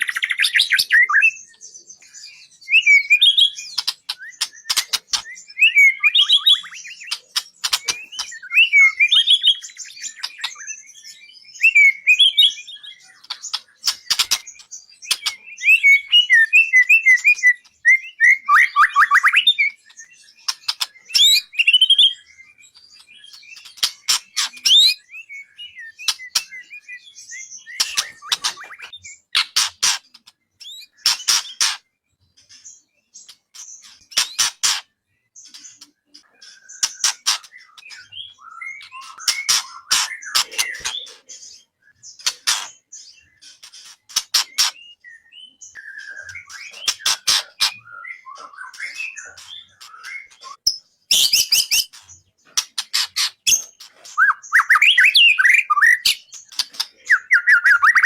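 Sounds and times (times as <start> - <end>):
songbird clicking and whistling: 0.0 - 12.5, 13.2 - 26.9, 27.5 - 31.8, 33.2 - 41.3, 42.2 - 58.0.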